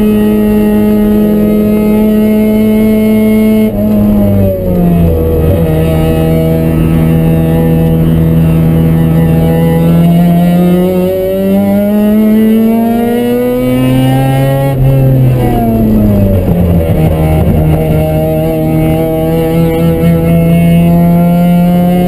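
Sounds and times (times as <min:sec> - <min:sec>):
rotary engine revving: 0:00.0 - 0:22.0.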